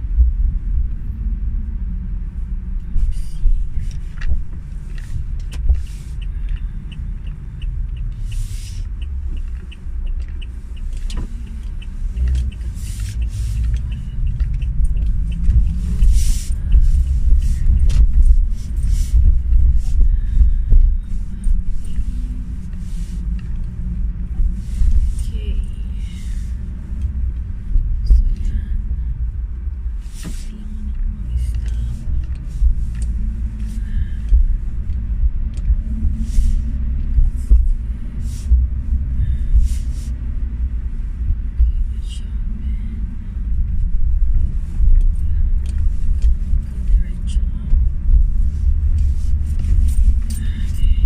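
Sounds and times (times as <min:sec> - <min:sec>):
car road noise and engine rumble: 0:00.0 - 0:51.0
light regular ticking: 0:03.4 - 0:51.0.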